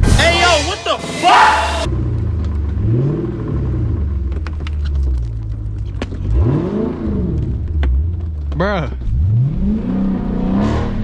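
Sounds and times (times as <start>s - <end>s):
car engine rumbling and revving: 1.0s - 11.0s.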